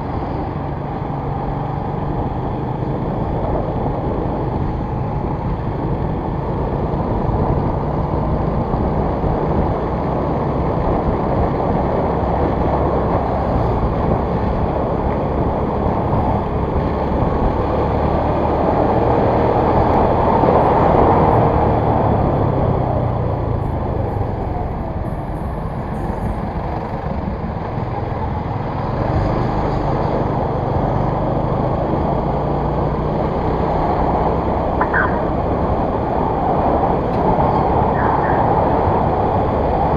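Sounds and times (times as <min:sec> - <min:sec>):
road noise: 0:00.0 - 0:39.9
vehicle engine: 0:00.0 - 0:39.9.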